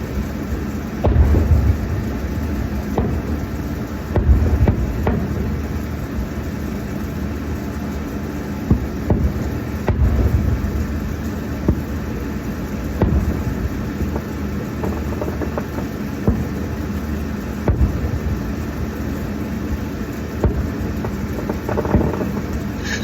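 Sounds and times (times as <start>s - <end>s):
distant fireworks popping: 0.0s - 23.0s.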